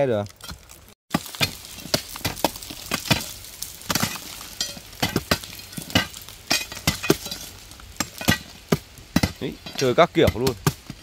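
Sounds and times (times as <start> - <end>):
rock being struck and broken: 0.3 - 11.0.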